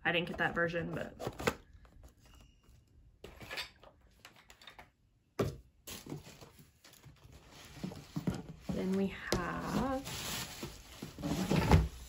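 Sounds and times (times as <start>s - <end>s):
cosmetics packaging being handled: 0.3s - 12.0s.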